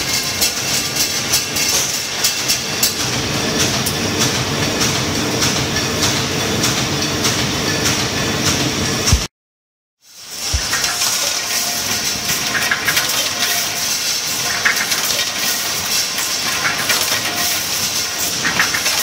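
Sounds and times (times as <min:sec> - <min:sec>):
machine clatter: 0:00.0 - 0:09.3, 0:10.3 - 0:19.0.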